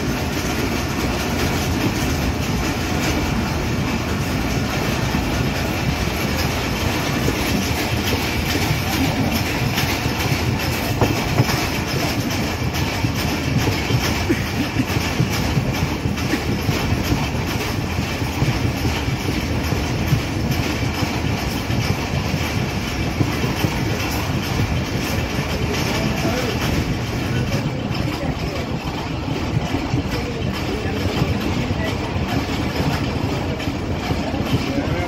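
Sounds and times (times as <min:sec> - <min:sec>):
clickety-clack over rail joints: 0:00.0 - 0:35.0
rumble of train wheels: 0:00.0 - 0:35.0.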